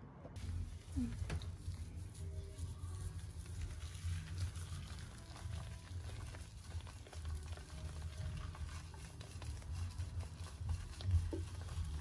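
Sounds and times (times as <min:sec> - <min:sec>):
wet squishing and rubbing of fur: 0:00.4 - 0:12.0.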